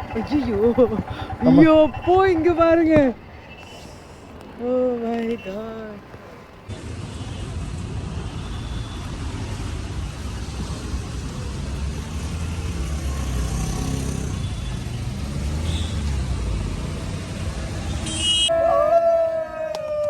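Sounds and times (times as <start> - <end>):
motorcycle engine rumble: 0.0 - 6.7, 9.0 - 18.5.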